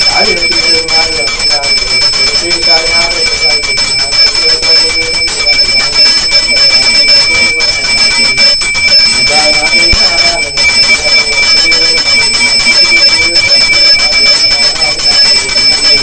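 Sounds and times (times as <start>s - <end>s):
brass hand bell ringing rapidly: 0.0s - 16.0s.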